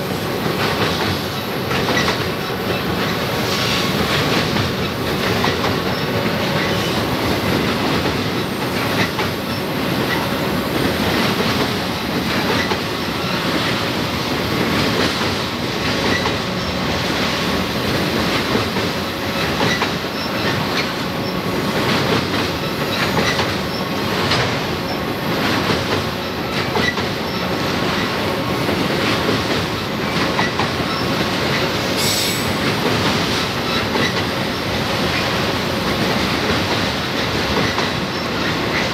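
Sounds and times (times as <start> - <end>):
steel wheels rumbling on rail: 0.0 - 38.9
rhythmic clickety-clack: 0.2 - 38.9.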